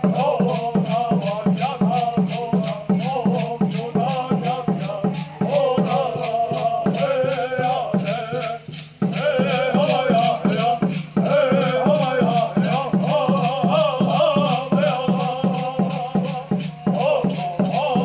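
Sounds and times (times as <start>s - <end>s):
shaken rattles: 0.0s - 18.0s
singers chanting: 0.0s - 18.0s.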